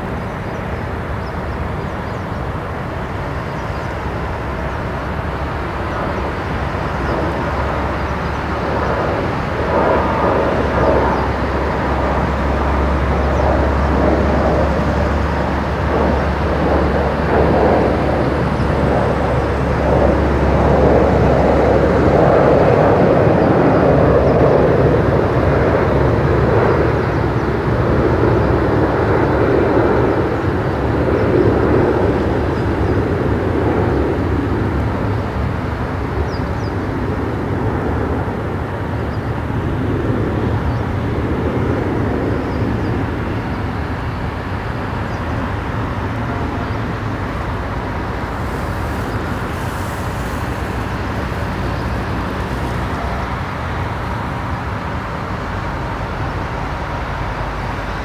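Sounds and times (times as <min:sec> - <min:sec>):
jet airliner engine rumble: 0:00.0 - 0:58.0.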